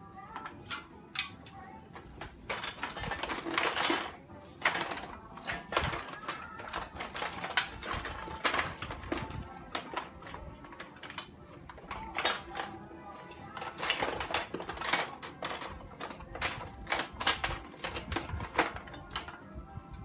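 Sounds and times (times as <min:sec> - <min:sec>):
small objects clattering in drawer: 0:00.1 - 0:19.8.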